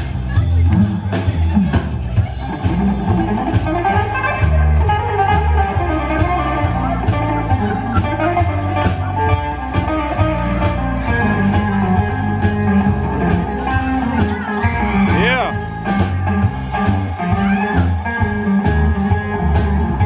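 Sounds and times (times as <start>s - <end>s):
drum kit beat: 0.0s - 20.0s
electric guitar: 0.0s - 20.0s
upright bass: 0.0s - 20.0s.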